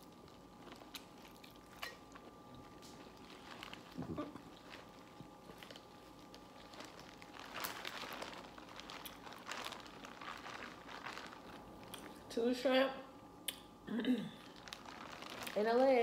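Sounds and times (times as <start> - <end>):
food crinkling and crunching: 0.0 - 12.4, 14.3 - 16.0.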